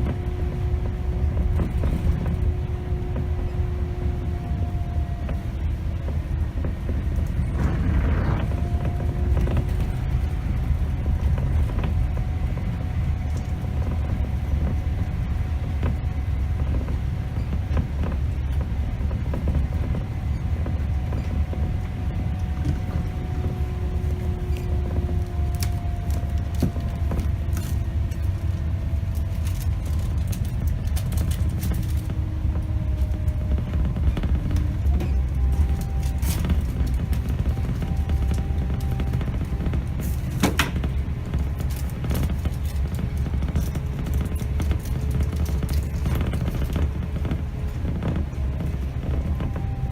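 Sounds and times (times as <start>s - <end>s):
bus diesel engine rumble: 0.0s - 49.9s
engine whine: 0.0s - 49.9s
rattles and clicks: 0.0s - 49.9s.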